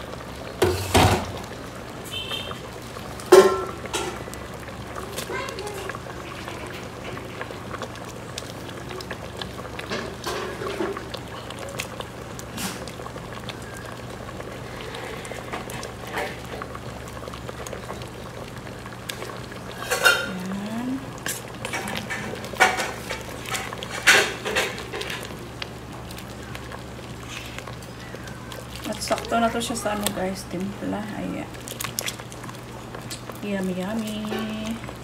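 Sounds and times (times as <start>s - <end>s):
low steady hum: 0.0s - 35.0s
soup bubbling at a boil: 0.0s - 35.0s.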